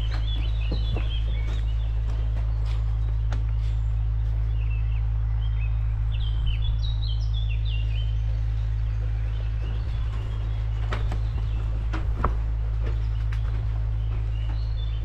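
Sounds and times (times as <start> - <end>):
songbird chirping: 0.0 - 15.0
steady low rumble: 0.0 - 15.0.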